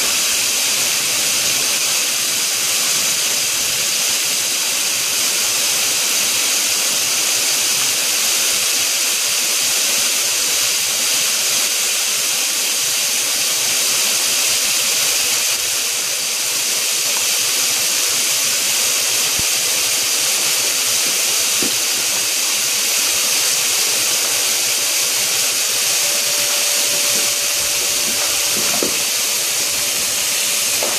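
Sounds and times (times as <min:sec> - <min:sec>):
hose spray hitting water: 0:00.0 - 0:30.9.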